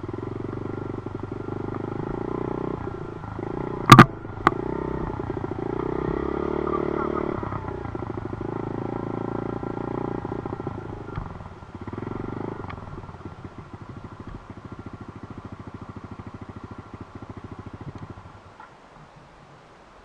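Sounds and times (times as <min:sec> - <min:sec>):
dirt bike engine running: 0:00.0 - 0:18.7.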